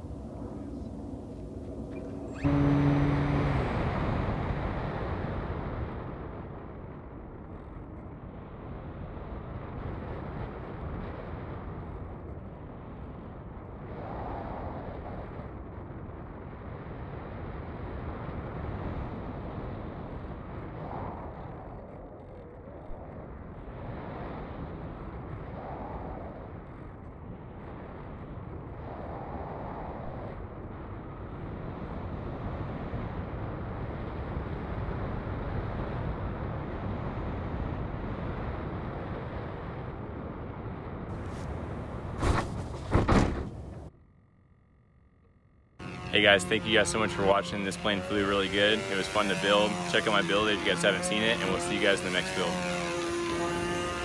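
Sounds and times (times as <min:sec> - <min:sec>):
wind rushing over camera: 0:00.0 - 0:43.9.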